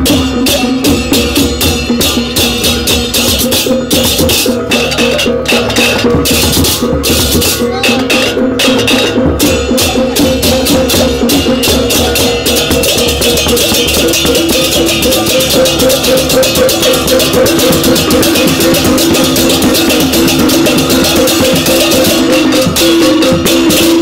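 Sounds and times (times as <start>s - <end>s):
hand cymbals clashing: 0.0s - 24.0s
hand drumming: 0.0s - 24.0s.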